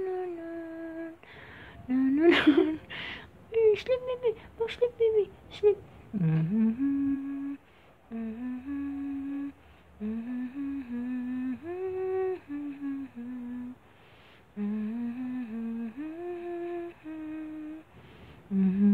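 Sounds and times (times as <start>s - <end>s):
person humming a lullaby: 0.0s - 13.8s, 14.6s - 17.9s, 18.5s - 18.9s.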